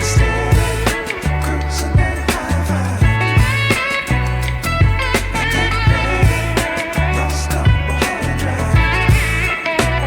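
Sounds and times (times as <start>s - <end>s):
music with drums bass and guitar: 0.0s - 10.0s.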